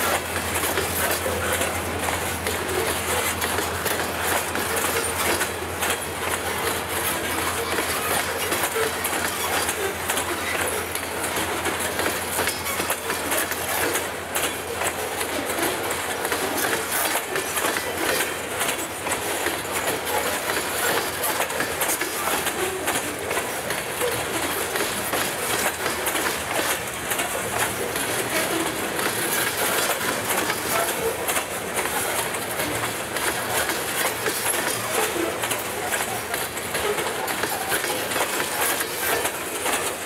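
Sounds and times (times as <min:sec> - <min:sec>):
steel wheels on rails: 0:00.0 - 0:40.0
wheels clicking over rail joints: 0:00.0 - 0:40.0.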